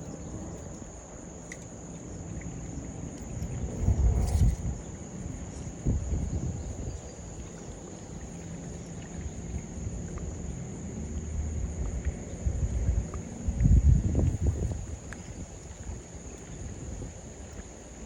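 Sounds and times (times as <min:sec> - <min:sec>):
insects trilling: 0:00.0 - 0:18.0
low uneven rumble: 0:00.0 - 0:18.0.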